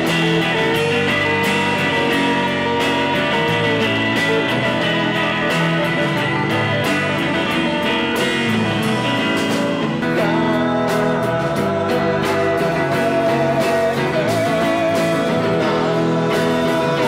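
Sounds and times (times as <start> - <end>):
guitars strumming: 0.0 - 17.0
live band playing: 0.0 - 17.0.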